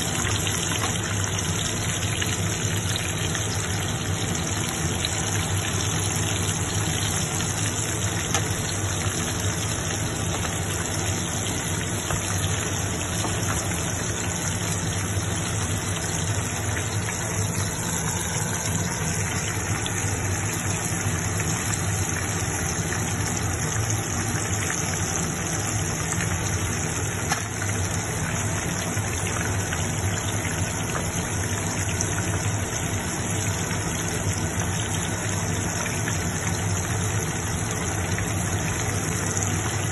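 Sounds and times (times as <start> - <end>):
constant low hum: 0.0 - 39.9
cutlet sizzling in oil: 0.0 - 39.9.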